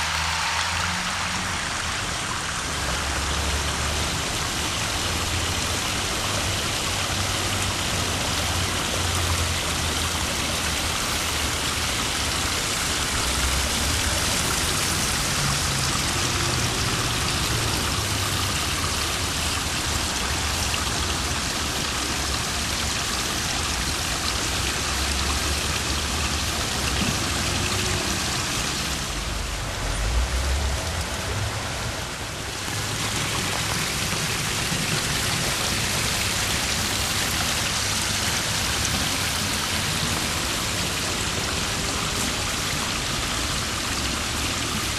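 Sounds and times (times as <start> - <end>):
water splashing over rocks: 0.0 - 44.9.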